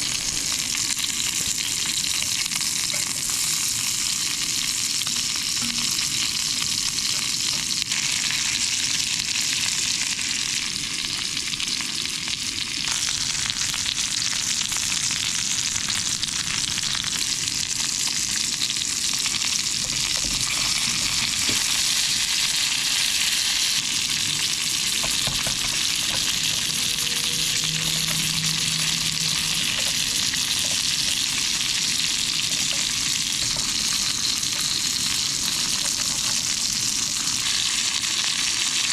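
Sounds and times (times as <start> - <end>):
meat sizzling in a pan: 0.0 - 38.9.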